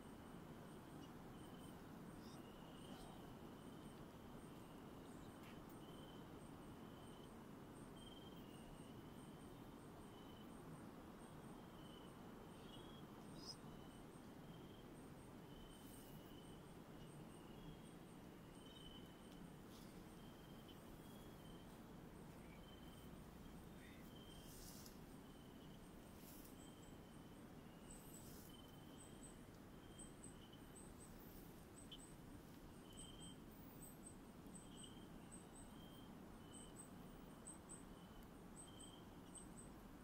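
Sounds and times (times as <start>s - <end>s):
low hiss: 0.0s - 40.0s.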